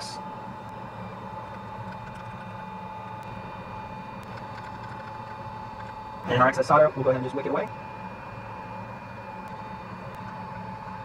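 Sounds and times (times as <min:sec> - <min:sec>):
low background hum: 0:00.0 - 0:11.0
thin constant whine: 0:00.0 - 0:11.0.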